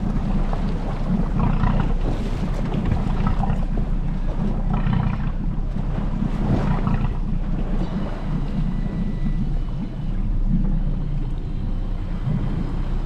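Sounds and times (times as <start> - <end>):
fishing boat engine rumble: 0.0 - 13.0.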